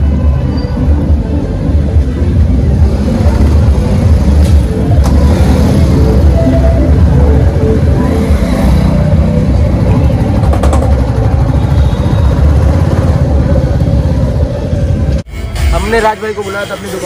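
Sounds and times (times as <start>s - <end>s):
motorcycle engine rumbling: 0.0s - 16.4s.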